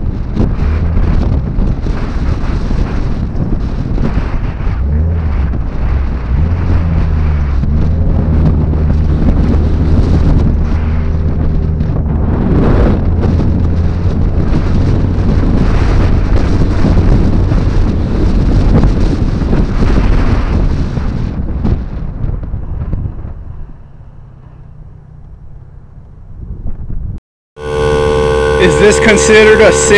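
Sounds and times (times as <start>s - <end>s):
van engine humming: 0.0s - 29.9s
wind noise on microphone: 0.0s - 29.9s.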